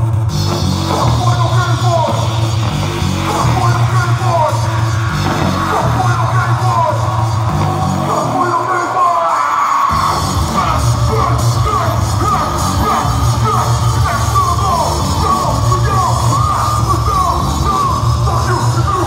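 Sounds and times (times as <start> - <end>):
heavy repeating bass line: 0.0 - 9.0, 9.9 - 19.0
loud electronic music: 0.0 - 19.0.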